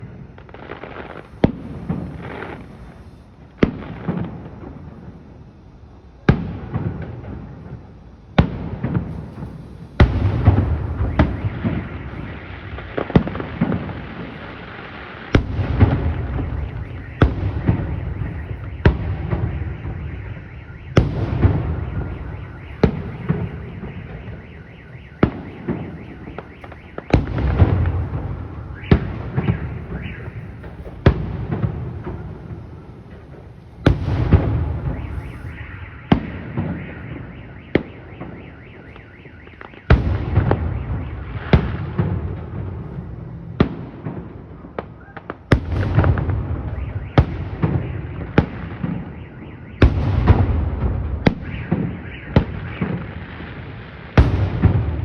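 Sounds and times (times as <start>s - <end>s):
fireworks bursting with bangs: 0.0s - 55.0s
fireworks crackling: 0.0s - 55.0s.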